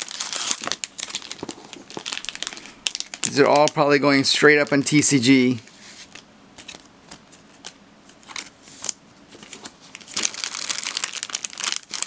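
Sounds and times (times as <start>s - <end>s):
plastic bag crinkling: 0.0s - 5.2s, 7.5s - 12.0s.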